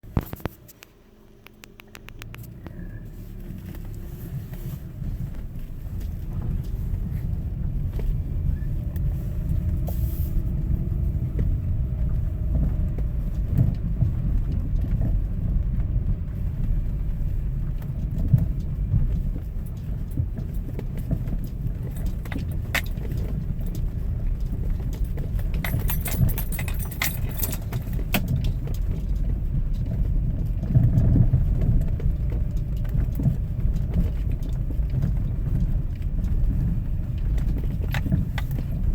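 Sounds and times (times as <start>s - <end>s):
car engine low rumble: 0.0s - 38.9s
engine knocks and rattles: 0.0s - 38.9s.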